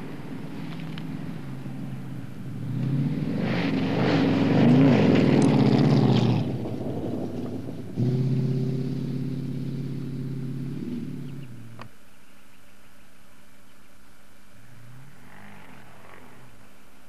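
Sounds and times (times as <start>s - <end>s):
car engine revving: 0.0s - 11.9s, 14.6s - 16.8s.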